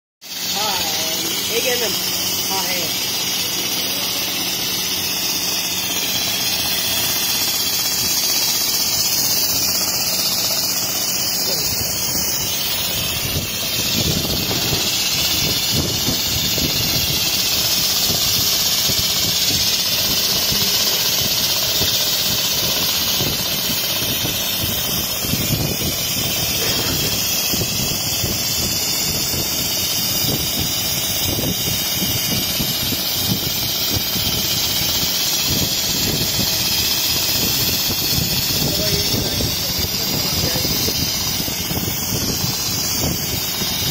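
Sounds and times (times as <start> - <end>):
sewing machine running: 0.2 - 43.9.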